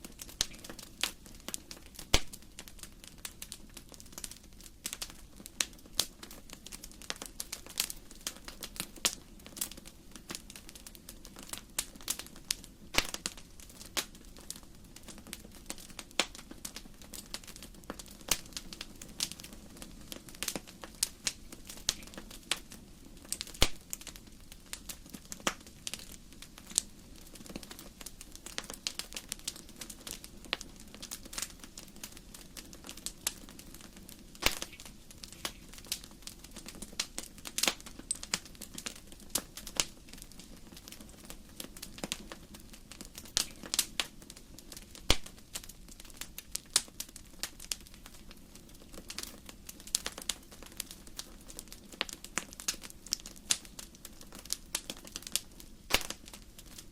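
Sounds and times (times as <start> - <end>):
firewood crackling: 0.0 - 56.9.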